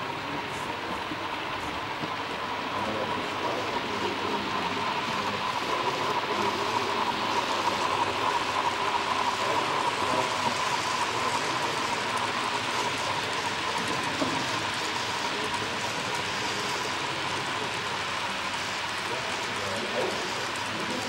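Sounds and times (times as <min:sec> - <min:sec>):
model train wheels rattling: 0:00.2 - 0:21.0.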